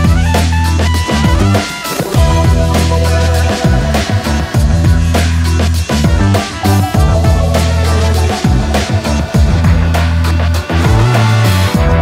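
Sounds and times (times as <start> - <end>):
bass line: 0.0 - 12.0
drum beat: 0.0 - 12.0.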